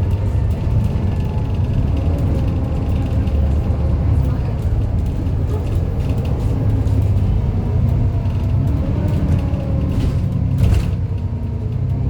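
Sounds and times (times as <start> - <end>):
bus engine rumble with whine: 0.0 - 12.0.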